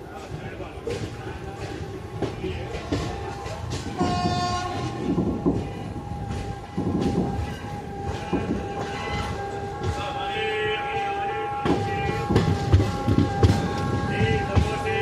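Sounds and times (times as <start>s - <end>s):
train rumbling: 0.0s - 15.0s
train wheels knocking over rail joints: 0.1s - 10.2s, 11.5s - 15.0s.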